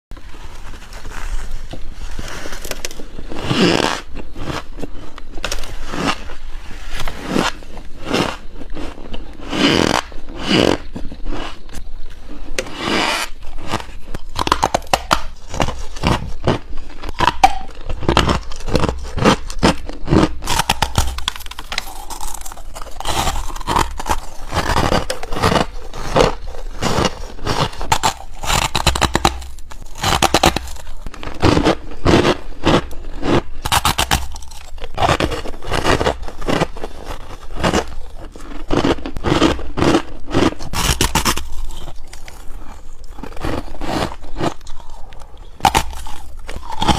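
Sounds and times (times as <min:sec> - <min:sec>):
crunching frost between teeth: 0:00.2 - 0:46.9.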